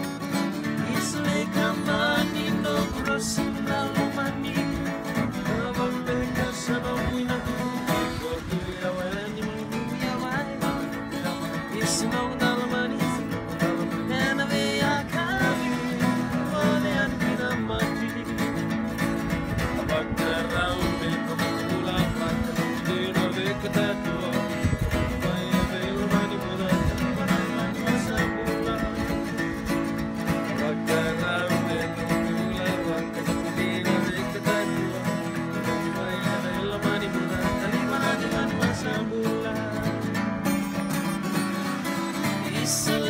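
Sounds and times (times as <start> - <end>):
acoustic guitars playing: 0.0 - 43.0
men singing: 0.6 - 40.5, 42.2 - 43.0.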